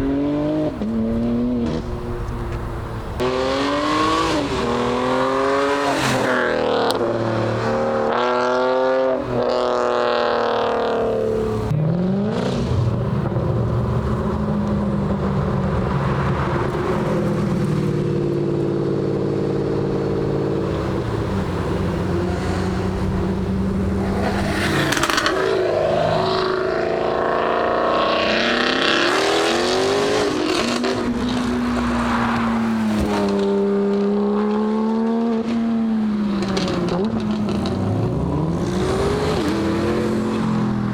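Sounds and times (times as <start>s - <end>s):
car engines accelerating past: 0.0s - 40.9s.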